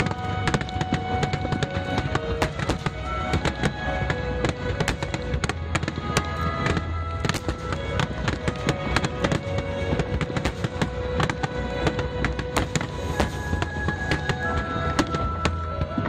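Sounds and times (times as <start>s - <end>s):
fireworks bursting and crackling: 0.0s - 16.0s
music playing: 0.0s - 16.0s.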